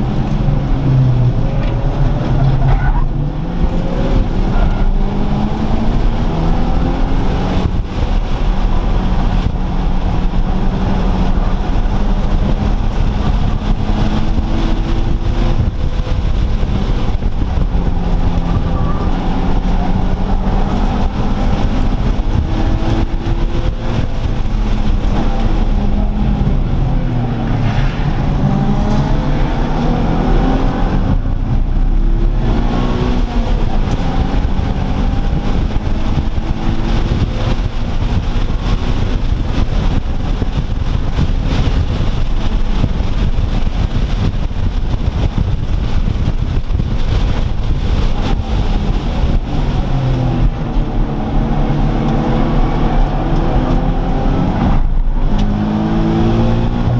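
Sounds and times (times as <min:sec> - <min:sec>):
car engines revving: 0:00.0 - 0:56.9
low rumble: 0:00.0 - 0:56.9.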